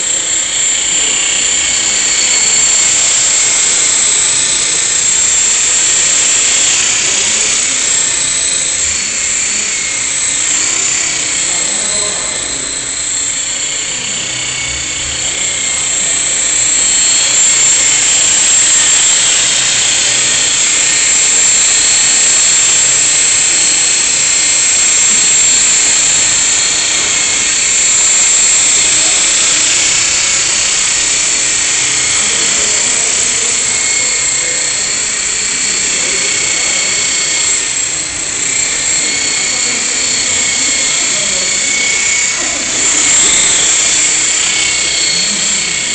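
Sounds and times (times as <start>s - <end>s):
rc helicopter motor whine: 0.0s - 45.9s
rotors whirring: 0.0s - 45.9s.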